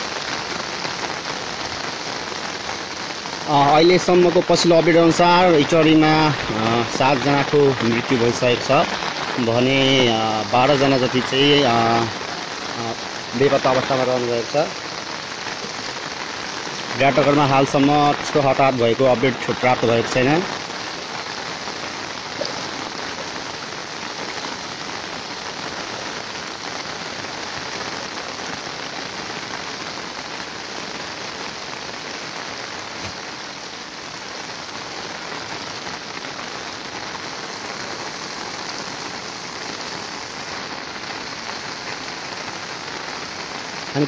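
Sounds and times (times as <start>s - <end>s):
steady hiss of flood water: 0.0s - 44.0s.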